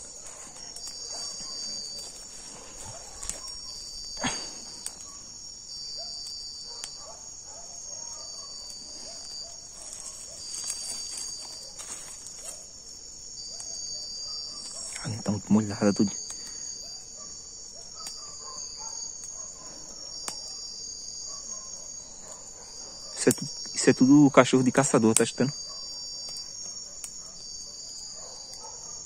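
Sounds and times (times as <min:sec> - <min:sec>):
crickets chirping chorus: 0:00.0 - 0:29.0
pulsing insect trill: 0:00.0 - 0:29.0.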